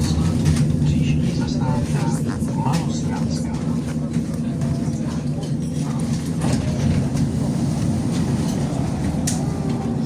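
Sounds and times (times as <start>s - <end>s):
tram motors humming: 0.0s - 10.0s.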